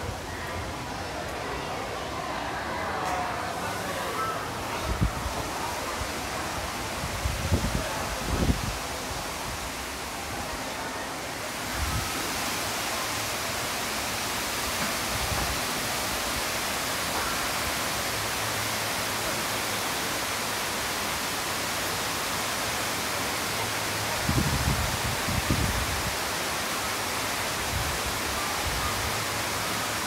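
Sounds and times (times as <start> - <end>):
indoor waterfall rushing: 0.0 - 30.0.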